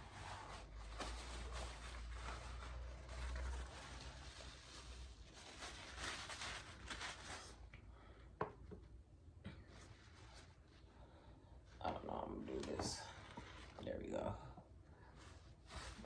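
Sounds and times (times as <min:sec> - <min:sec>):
faint rustling and handling: 0:00.0 - 0:16.0.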